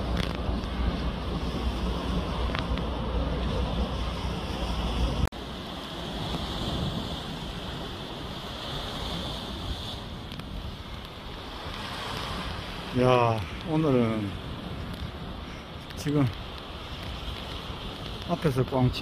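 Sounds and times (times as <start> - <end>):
waves washing against rocky shore: 0.0 - 19.0
wind buffeting microphone: 0.0 - 19.0.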